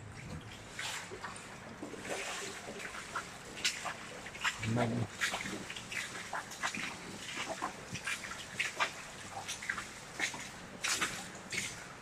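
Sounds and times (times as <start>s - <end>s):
footsteps splashing on wet floor: 2.0s - 11.9s.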